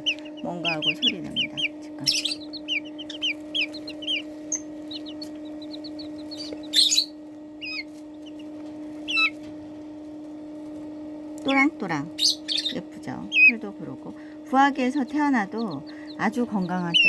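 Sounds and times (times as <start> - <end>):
chick peeping: 0.0 - 9.6, 11.4 - 17.0
steady low hum: 0.0 - 17.0.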